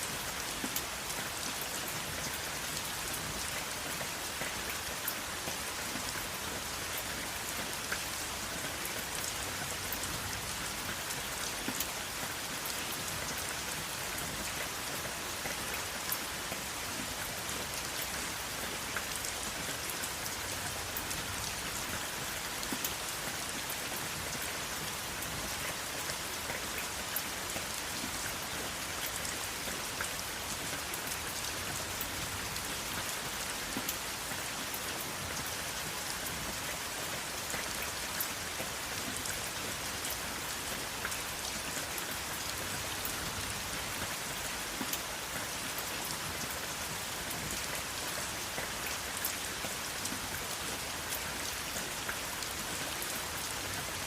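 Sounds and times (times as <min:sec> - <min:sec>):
rain ticking on a hard surface: 0:00.0 - 0:54.0.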